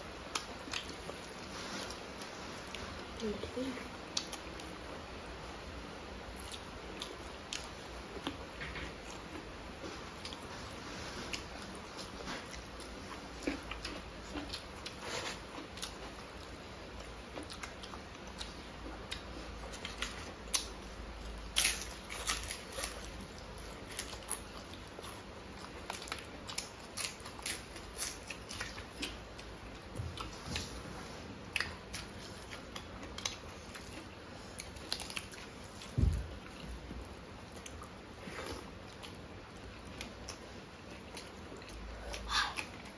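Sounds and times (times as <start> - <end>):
people chewing and lip smacking: 0.1 - 3.1, 3.9 - 4.8, 6.2 - 42.9.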